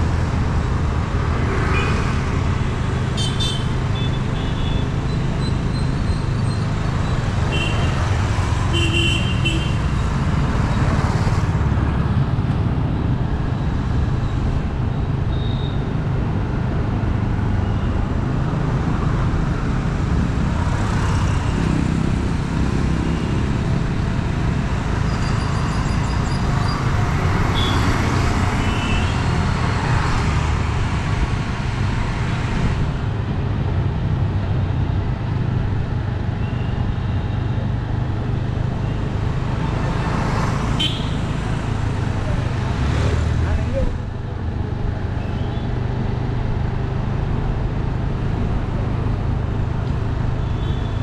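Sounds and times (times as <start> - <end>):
car engine and road rumble: 0.0 - 51.0
passing vehicles: 0.0 - 51.0.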